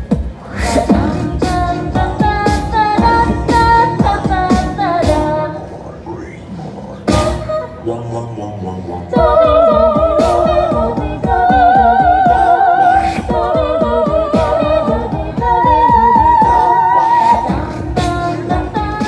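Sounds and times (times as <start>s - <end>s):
steady beat: 0.0s - 5.4s, 6.8s - 7.6s, 8.2s - 19.0s
person singing with vibrato: 0.5s - 19.0s.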